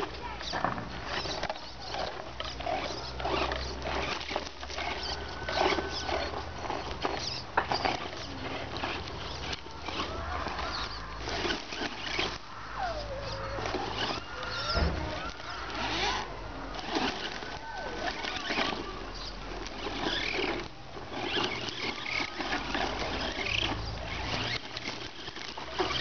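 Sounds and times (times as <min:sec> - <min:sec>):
toy truck clattering over dirt: 0:00.0 - 0:26.0
brief squeaks: 0:00.3 - 0:26.0.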